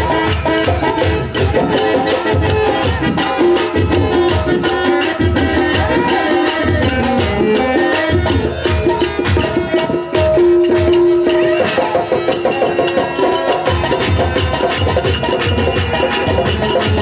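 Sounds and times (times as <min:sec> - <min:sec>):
rapid hand drum rhythm: 0:00.0 - 0:17.0.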